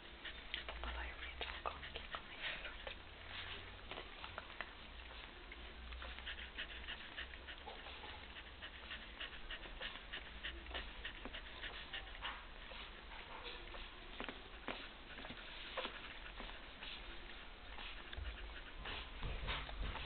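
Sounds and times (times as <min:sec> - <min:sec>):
puppies suckling: 0:00.0 - 0:20.0.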